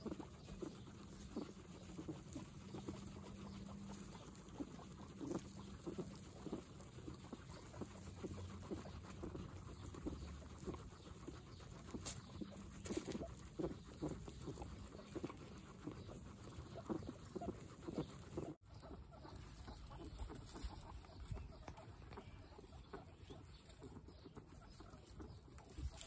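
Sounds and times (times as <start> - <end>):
guinea pigs chewing hay: 0.0 - 26.0.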